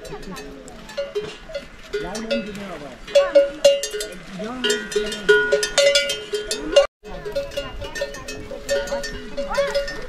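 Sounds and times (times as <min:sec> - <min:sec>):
livestock bells clanking: 0:00.0 - 0:10.0.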